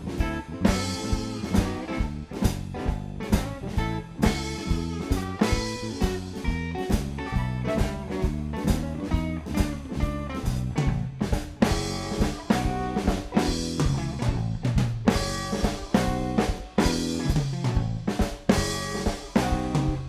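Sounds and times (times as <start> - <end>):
drum kit beat: 0.0 - 20.0
electric guitar: 0.0 - 20.0.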